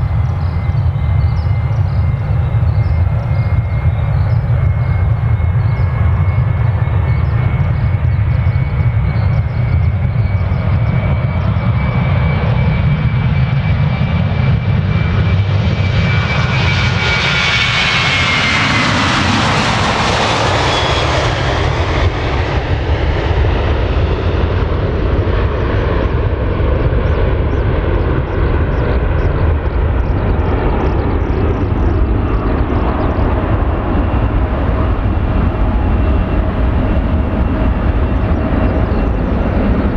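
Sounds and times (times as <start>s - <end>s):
jet airliner passing overhead: 0.0s - 39.9s.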